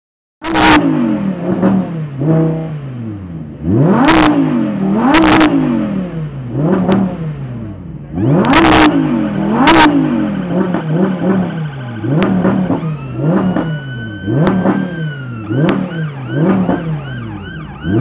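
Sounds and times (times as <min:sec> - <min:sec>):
car engine revving: 0:00.4 - 0:18.0.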